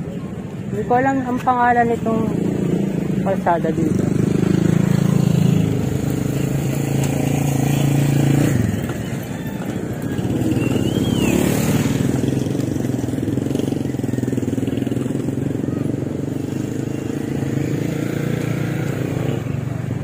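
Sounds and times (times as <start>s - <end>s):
small motorcycle engines: 0.0s - 20.0s.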